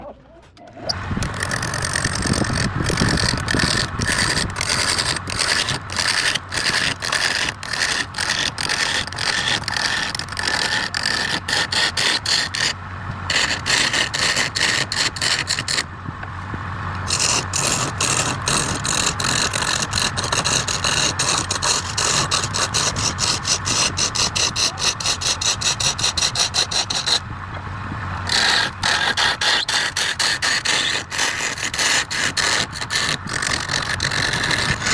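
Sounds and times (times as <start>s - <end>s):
turning tool scraping spinning wood: 0.8s - 15.9s, 16.9s - 34.9s
wood lathe humming: 0.9s - 15.9s, 16.8s - 34.9s.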